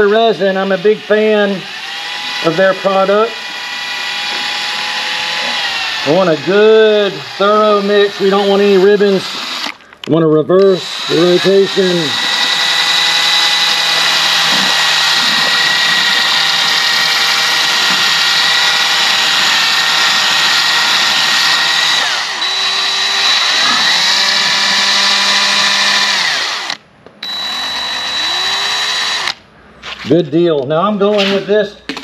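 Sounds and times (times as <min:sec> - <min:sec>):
electric drill mixing paddle whining: 0:00.0 - 0:09.8, 0:10.6 - 0:29.4.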